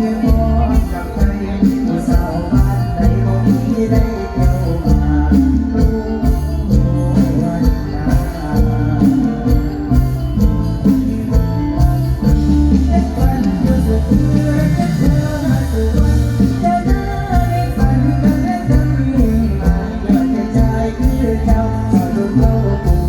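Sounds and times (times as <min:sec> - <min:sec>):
band music with bass and percussion: 0:00.0 - 0:23.0.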